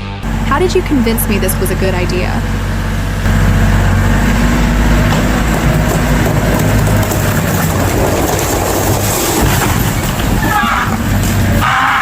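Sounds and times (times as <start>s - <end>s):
heavy engine running: 0.0s - 12.0s
rattling clattering noise: 0.2s - 11.6s.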